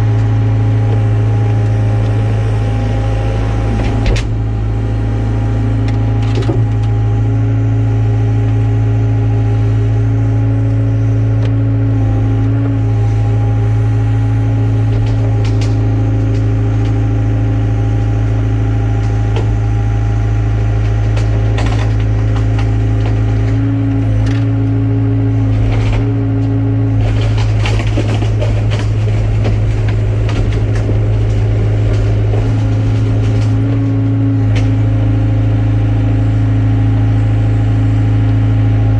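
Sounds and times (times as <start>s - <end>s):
rough scraping and crunching: 0.0s - 37.6s
excavator diesel engine running: 0.0s - 38.9s.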